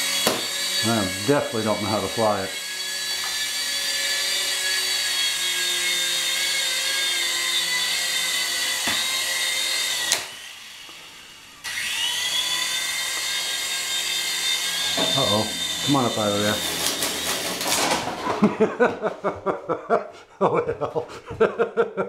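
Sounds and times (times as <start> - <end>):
toy helicopter motors whining: 0.0 - 18.1.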